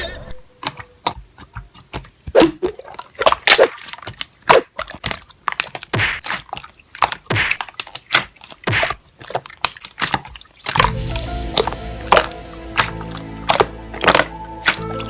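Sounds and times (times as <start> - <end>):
squishy slime sounds: 0.5 - 15.0
slime clicks and crackles: 2.8 - 15.0.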